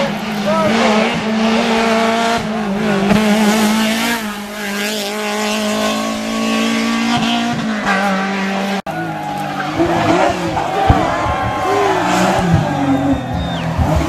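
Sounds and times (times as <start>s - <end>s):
rally car engines at high revs: 0.0s - 14.0s.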